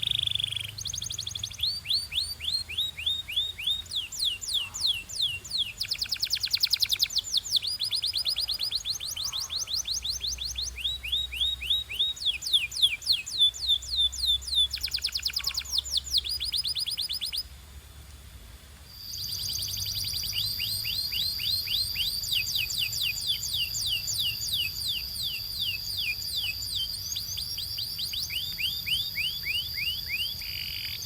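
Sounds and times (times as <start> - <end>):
canary singing trills: 0.0 - 17.5, 18.9 - 31.0.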